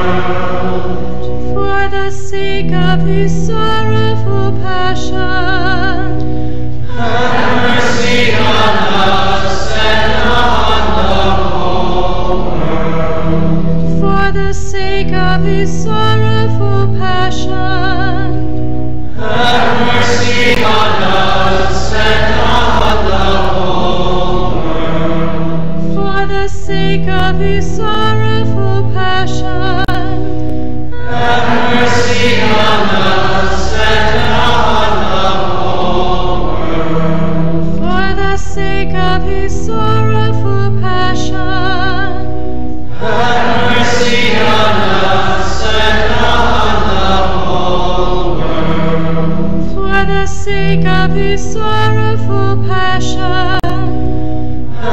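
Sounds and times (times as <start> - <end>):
choir singing a hymn: 0.0 - 6.2, 6.8 - 18.4, 19.1 - 30.2, 30.9 - 42.3, 42.9 - 53.9, 54.6 - 54.9
long-held low accompanying notes: 0.0 - 54.9.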